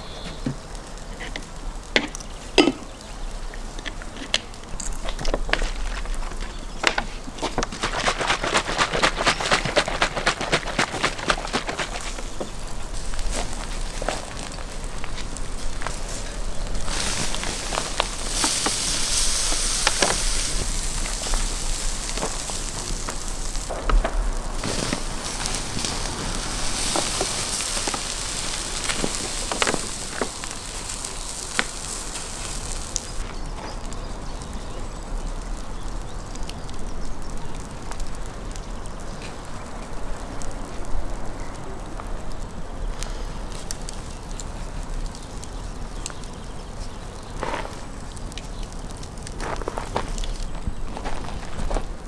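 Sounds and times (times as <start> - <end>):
liquid hissing on hot embers: 0.0 - 52.0
wood fire crackling and popping: 0.0 - 52.0.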